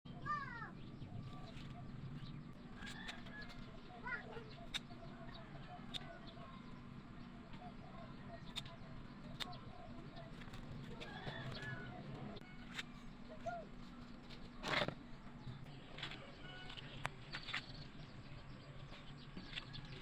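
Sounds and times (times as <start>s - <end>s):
birds chirping: 0.1s - 20.0s.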